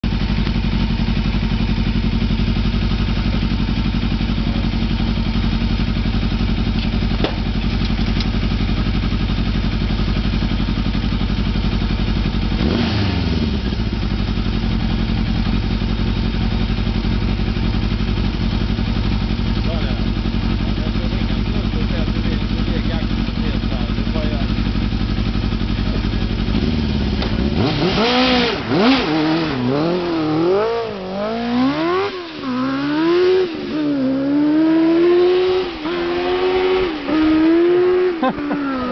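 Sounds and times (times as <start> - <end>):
buggy engine idling: 0.0 - 38.9.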